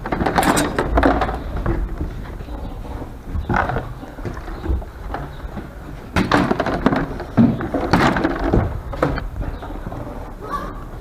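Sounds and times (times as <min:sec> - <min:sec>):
knocks and clatter of handling: 0:00.0 - 0:10.2.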